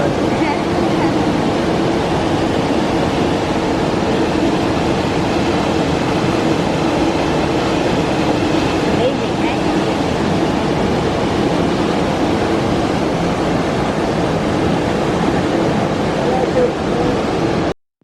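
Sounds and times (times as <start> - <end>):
water rushing over rock: 0.0 - 17.7.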